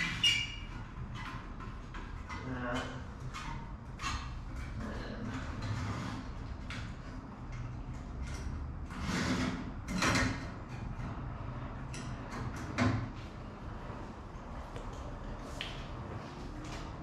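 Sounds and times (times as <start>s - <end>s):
steady low hum: 0.7s - 17.0s.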